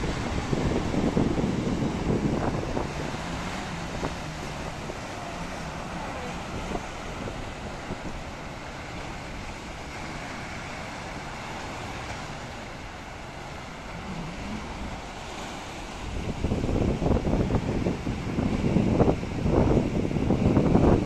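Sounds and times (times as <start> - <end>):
surf breaking over rocks: 0.0 - 21.0
wind buffeting microphone: 0.0 - 21.0.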